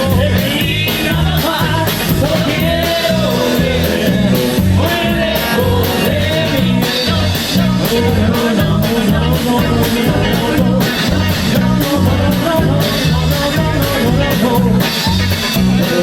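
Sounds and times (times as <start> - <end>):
bass line: 0.0 - 16.0
rockabilly band playing live: 0.0 - 16.0
steady drum beat: 0.0 - 16.0.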